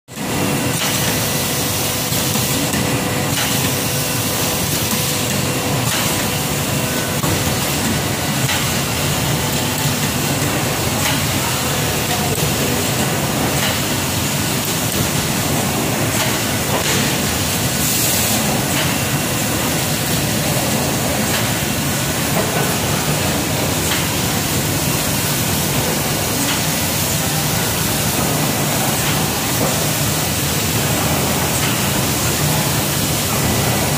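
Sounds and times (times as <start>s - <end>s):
machine air hiss: 0.3s - 33.9s.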